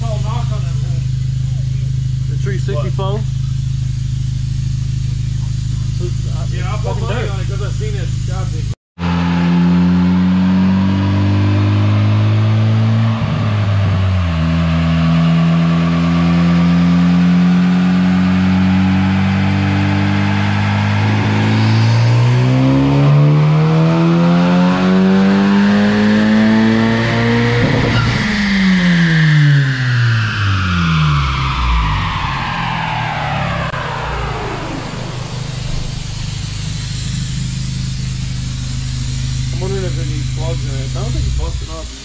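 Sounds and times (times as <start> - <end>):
car engine revving on dyno: 0.0 - 42.0.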